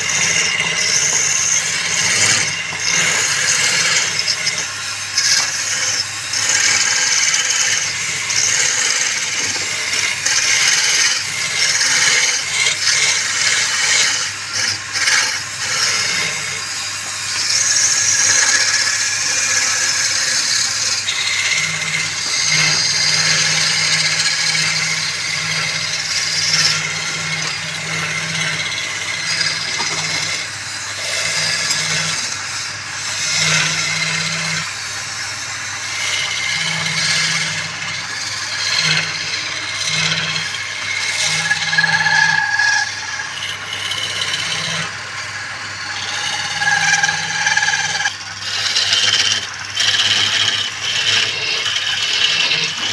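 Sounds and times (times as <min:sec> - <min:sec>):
turning tool scraping wood: 0:00.0 - 0:52.9
wood lathe motor hum: 0:00.0 - 0:52.9.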